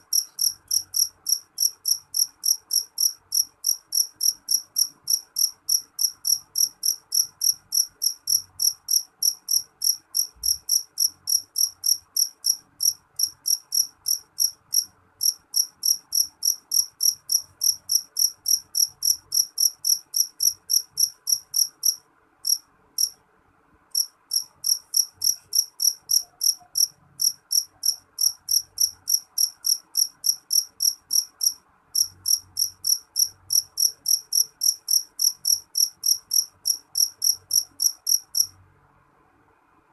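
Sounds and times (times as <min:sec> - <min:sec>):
cricket chirping shrilly: 0:00.0 - 0:23.2, 0:24.0 - 0:38.5.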